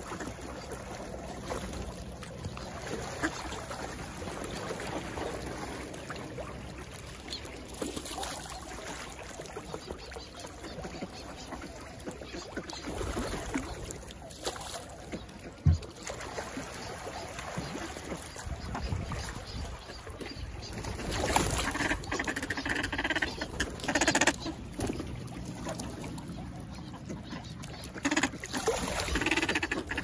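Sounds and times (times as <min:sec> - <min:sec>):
water splashing from ducks: 0:00.0 - 0:30.0.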